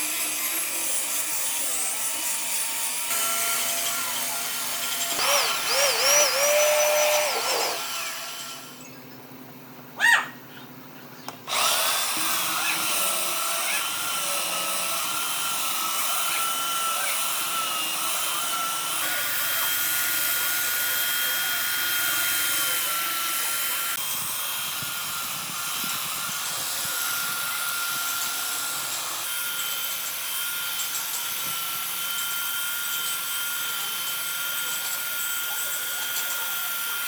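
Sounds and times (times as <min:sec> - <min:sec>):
electric power tool working wood: 0:00.0 - 0:08.9, 0:11.5 - 0:37.0.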